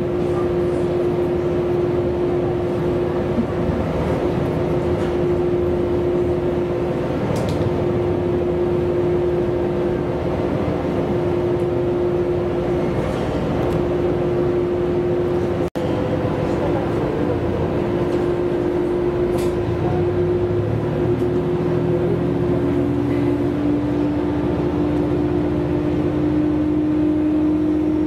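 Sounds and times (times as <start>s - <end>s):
constant hum: 0.0s - 28.0s
railcar running rumble: 0.0s - 28.0s.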